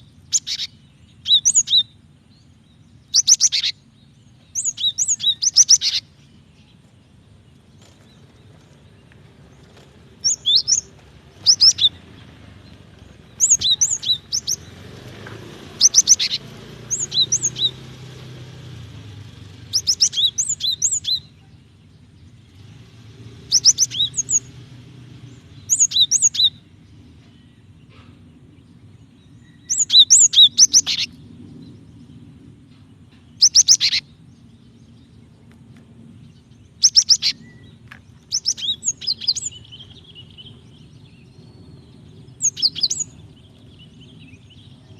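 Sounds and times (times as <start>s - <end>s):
bird high chirps: 0.0s - 22.7s, 23.4s - 35.6s, 36.2s - 44.9s.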